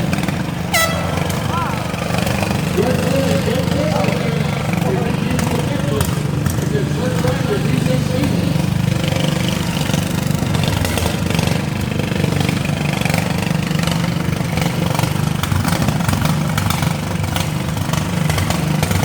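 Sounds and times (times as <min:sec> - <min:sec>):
lawn mower engines droning: 0:00.0 - 0:19.0.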